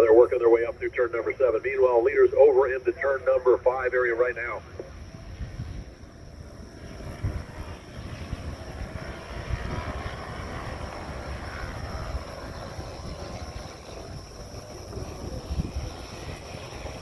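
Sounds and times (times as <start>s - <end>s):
distant racing motorcycle engines: 0.0s - 17.0s
steady low rumble: 0.0s - 17.0s.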